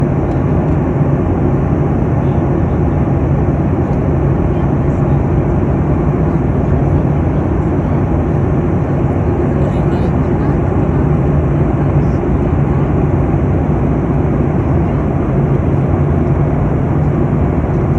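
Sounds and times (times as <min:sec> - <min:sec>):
airliner cabin rumble: 0:00.0 - 0:17.9
faint hum: 0:00.0 - 0:17.9.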